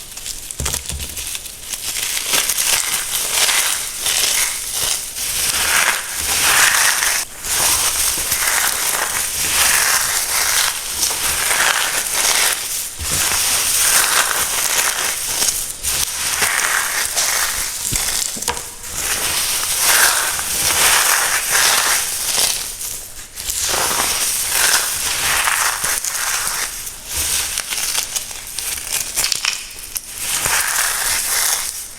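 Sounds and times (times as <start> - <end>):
crunchy food being crushed: 0.0 - 31.9.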